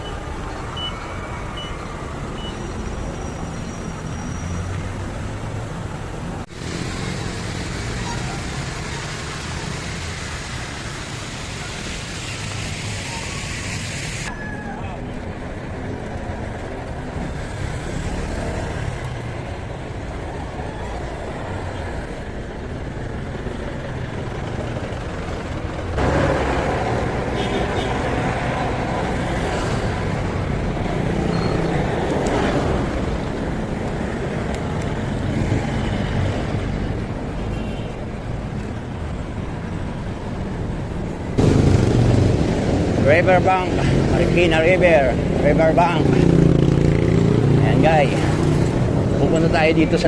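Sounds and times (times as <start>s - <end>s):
road traffic rumble: 0.0s - 50.0s
vehicles passing close: 0.0s - 50.0s.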